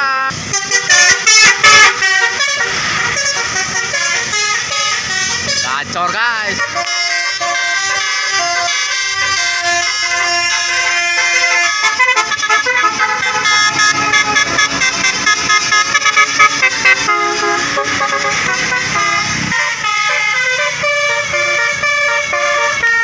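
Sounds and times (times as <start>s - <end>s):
bus multi-tone horn tune: 0.0s - 23.0s.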